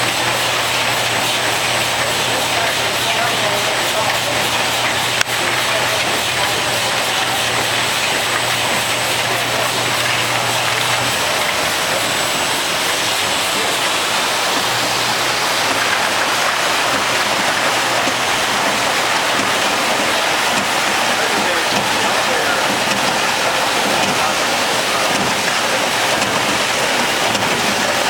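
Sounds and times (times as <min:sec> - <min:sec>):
machinery rushing din: 0:00.0 - 0:28.0.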